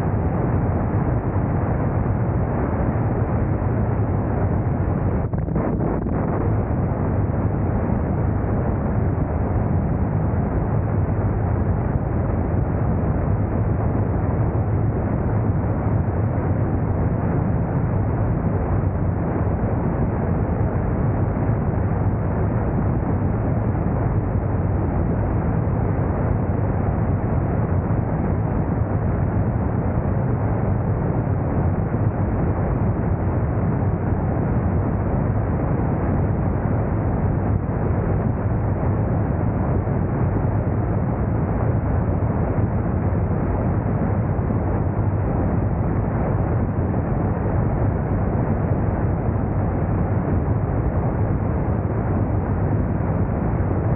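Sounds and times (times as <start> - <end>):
rushing wind: 0.0 - 53.9.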